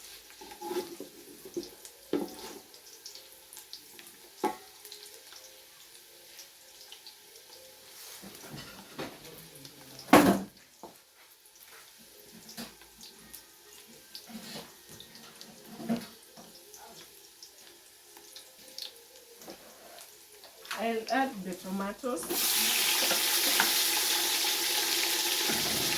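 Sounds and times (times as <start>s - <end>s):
onions sizzling in a pan: 0.0s - 25.9s.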